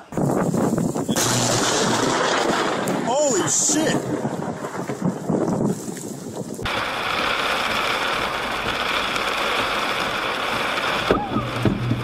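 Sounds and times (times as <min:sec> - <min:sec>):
heavy rain on car roof: 0:01.5 - 0:12.0.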